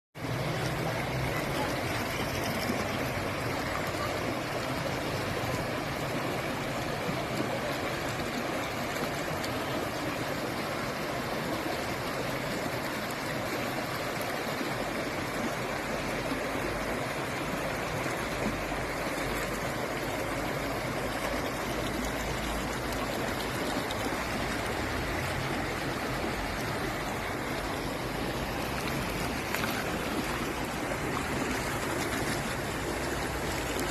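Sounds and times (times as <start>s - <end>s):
stream water flowing: 0.2s - 33.9s.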